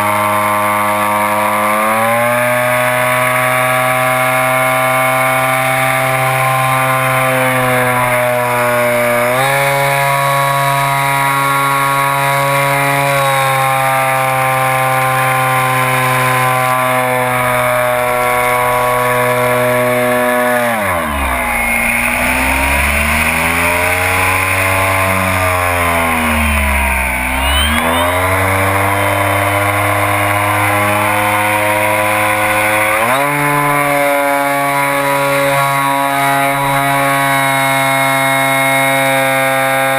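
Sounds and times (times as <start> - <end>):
model airplane motor buzzing: 0.0 - 39.9.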